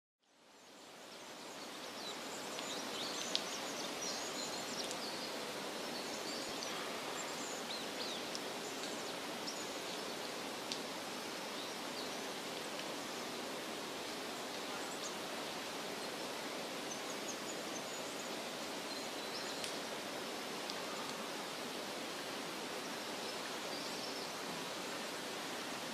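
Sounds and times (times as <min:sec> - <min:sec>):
steady outdoor hiss: 0:00.2 - 0:25.9
small birds chirping: 0:00.6 - 0:21.6.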